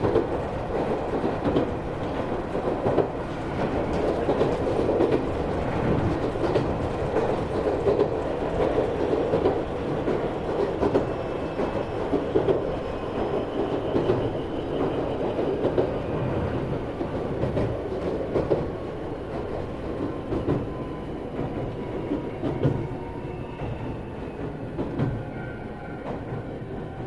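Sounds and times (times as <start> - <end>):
clack over rail joints: 0.0 - 23.0, 23.6 - 26.6
train wheels rumbling on rail: 0.0 - 27.0.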